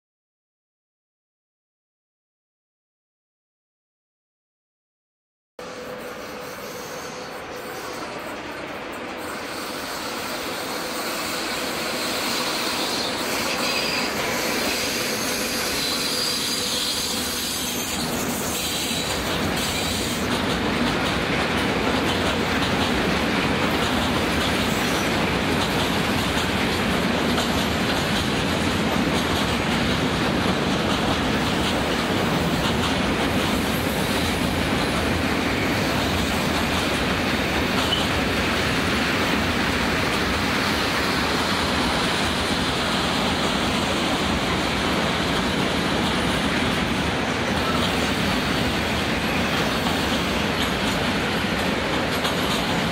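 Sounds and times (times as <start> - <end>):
freight train wheels rumbling: 5.6 - 52.9.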